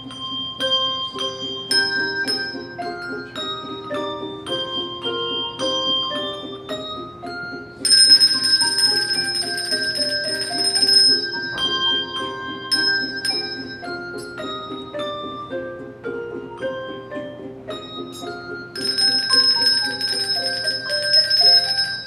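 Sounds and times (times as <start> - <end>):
handbell choir playing: 0.0 - 22.0.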